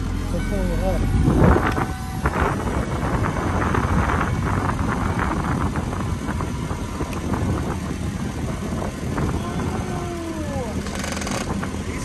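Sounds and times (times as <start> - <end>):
car engine idling: 0.0 - 12.0
convertible top motor running: 0.0 - 12.0.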